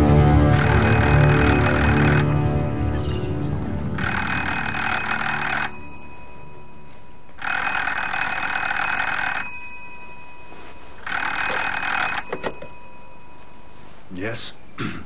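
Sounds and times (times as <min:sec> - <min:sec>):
telephone bell ringing: 0:00.0 - 0:02.8, 0:04.0 - 0:14.0.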